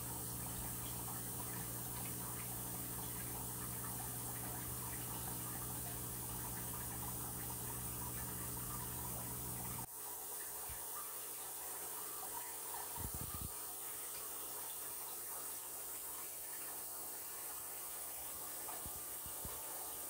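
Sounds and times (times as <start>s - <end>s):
running water in aquarium: 0.0s - 20.0s.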